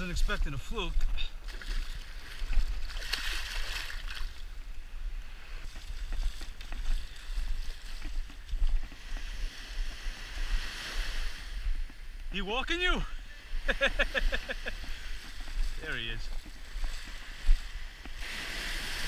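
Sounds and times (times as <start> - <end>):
wind on microphone: 0.0 - 12.3, 13.2 - 19.0
waves breaking on shore: 0.0 - 19.0.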